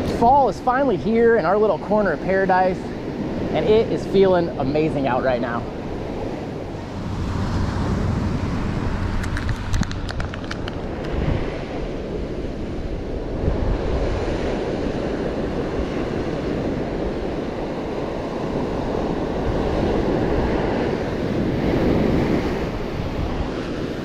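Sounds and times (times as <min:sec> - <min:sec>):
ocean surf washing onto beach: 0:00.0 - 0:24.0
wind buffeting microphone: 0:00.0 - 0:24.0.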